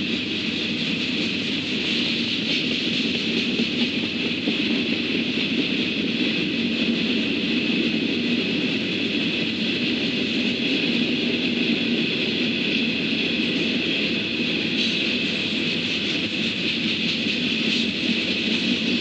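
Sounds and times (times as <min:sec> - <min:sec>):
freight train wheels on rail: 0:00.0 - 0:19.0.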